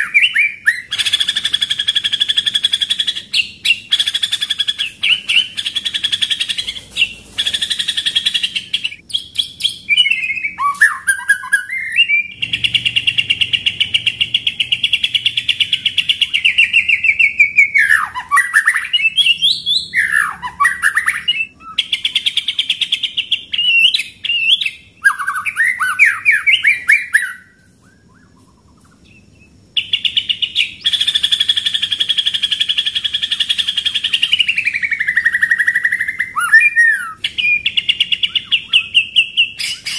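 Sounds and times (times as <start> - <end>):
bird singing rolling trills: 0.0 - 39.9.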